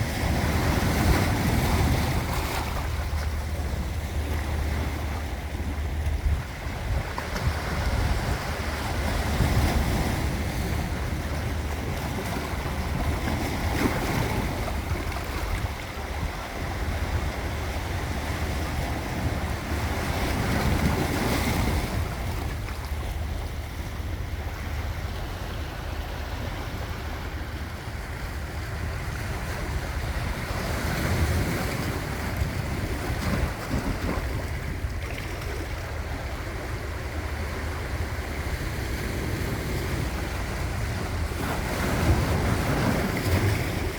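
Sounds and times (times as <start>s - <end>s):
sea waves breaking on shore: 0.0s - 43.9s
wind rumbling on microphone: 0.0s - 43.9s.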